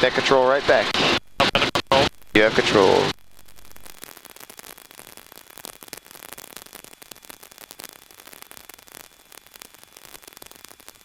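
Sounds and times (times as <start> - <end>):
static hiss with crackling: 0.0 - 11.0.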